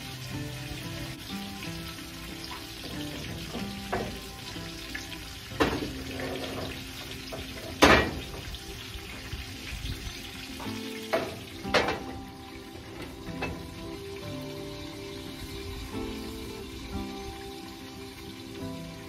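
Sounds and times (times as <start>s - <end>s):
background music: 0.0s - 19.0s
chicken sizzling in a skillet: 0.0s - 19.0s.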